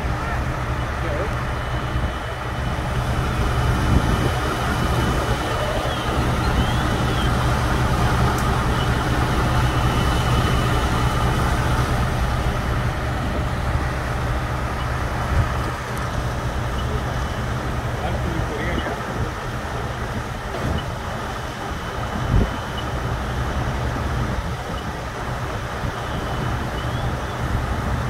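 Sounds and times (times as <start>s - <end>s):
diesel engines idling: 0.0s - 28.0s.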